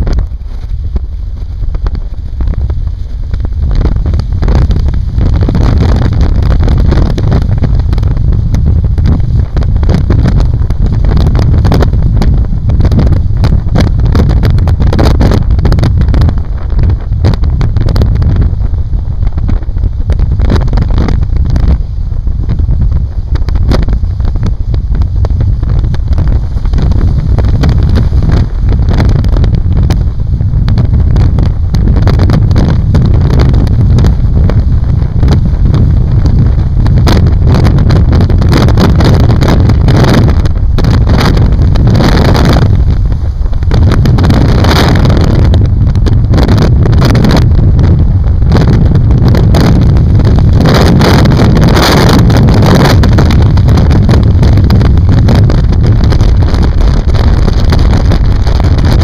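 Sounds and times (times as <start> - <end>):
road and tyre noise: 0.0 - 59.0
wind buffeting microphone: 0.0 - 59.0.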